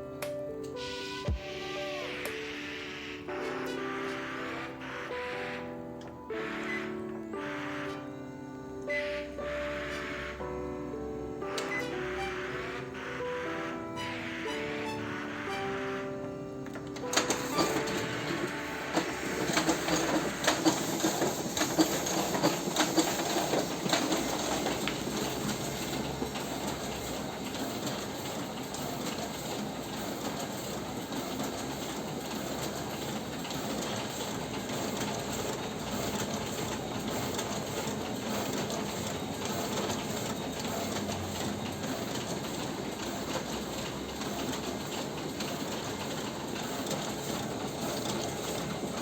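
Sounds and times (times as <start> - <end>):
finisher machine clattering: 8.9 - 49.0.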